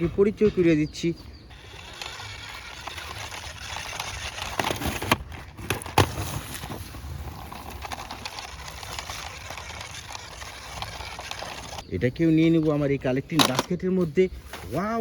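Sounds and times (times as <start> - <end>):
handling rustling: 1.5 - 11.8, 12.5 - 14.8.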